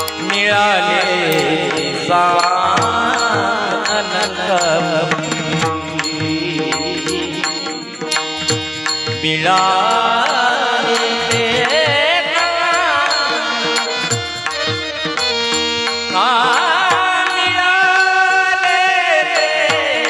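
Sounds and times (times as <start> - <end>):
person singing melodically: 0.0 - 14.8, 15.4 - 20.0
percussion beats: 0.0 - 20.0
steady instrumental tones: 0.0 - 20.0.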